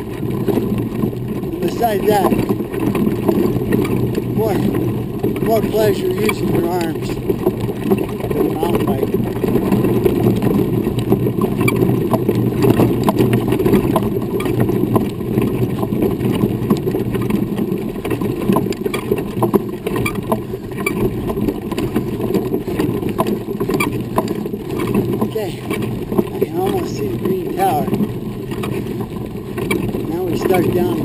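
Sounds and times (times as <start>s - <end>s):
grit and stones crackling: 0.0s - 31.0s
tyres rolling over gravel: 0.0s - 31.0s.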